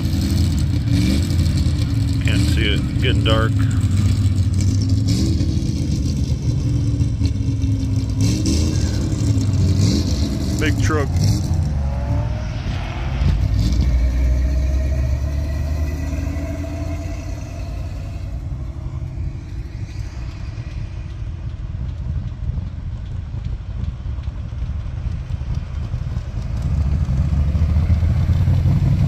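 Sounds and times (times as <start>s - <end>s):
car approaching: 0.0s - 29.0s
truck driving past: 0.0s - 29.0s.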